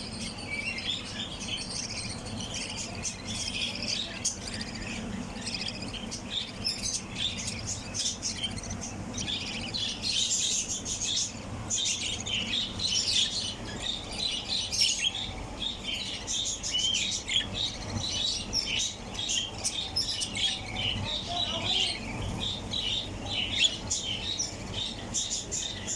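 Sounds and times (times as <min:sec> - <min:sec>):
budgerigars chirping and chattering: 0:00.0 - 0:25.9.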